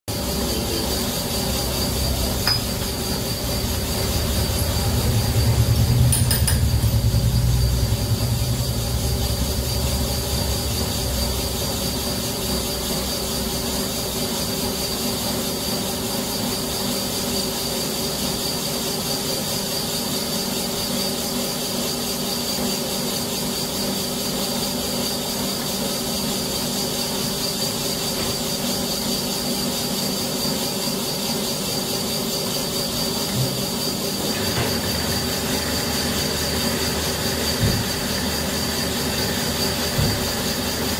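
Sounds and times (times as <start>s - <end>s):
steady hum: 0.1s - 20.8s, 21.9s - 40.9s
boring machine whine: 0.1s - 40.9s.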